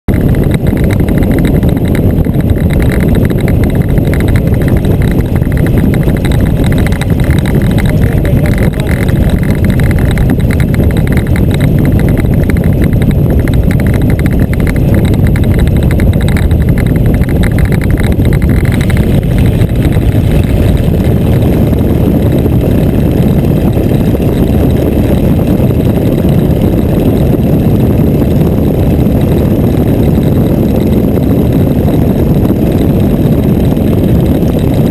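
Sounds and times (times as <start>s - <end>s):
biplane radial engine running: 0.0s - 34.9s.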